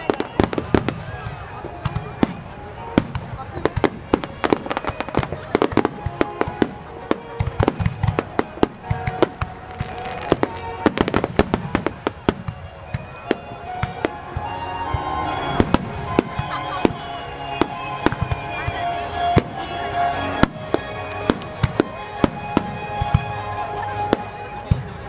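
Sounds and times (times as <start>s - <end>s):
music: 0.0s - 25.0s.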